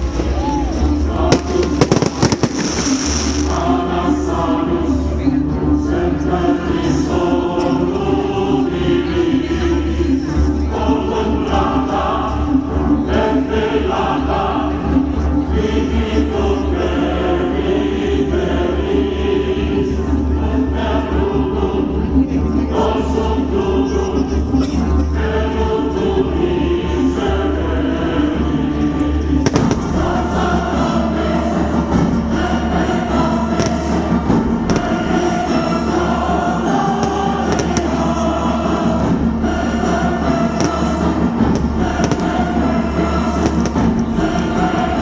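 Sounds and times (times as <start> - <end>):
choir singing held chords: 0.0 - 45.0
musical accompaniment: 0.0 - 45.0.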